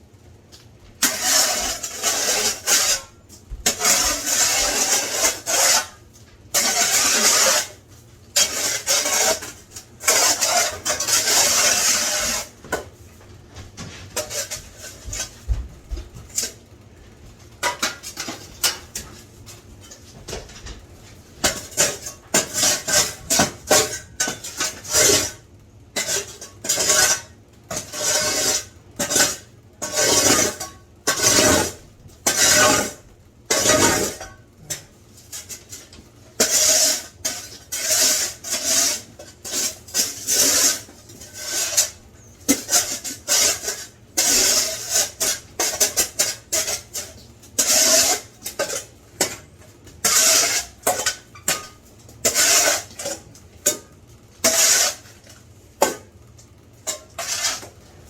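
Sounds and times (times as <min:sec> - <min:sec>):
rough scraping across floor: 0:01.0 - 0:16.6, 0:17.7 - 0:25.4, 0:26.0 - 0:49.3, 0:50.0 - 0:51.6, 0:52.2 - 0:53.3, 0:54.4 - 0:55.4, 0:56.9 - 0:58.0.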